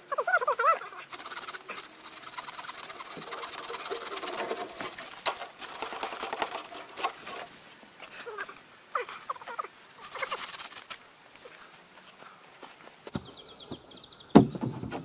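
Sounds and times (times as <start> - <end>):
conifer branches rustling: 0.0 - 14.0.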